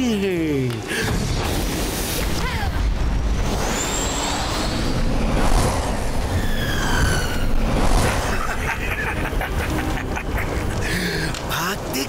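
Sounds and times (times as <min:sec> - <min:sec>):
flame rushing: 0:00.9 - 0:11.5
deep rumble: 0:01.0 - 0:11.5.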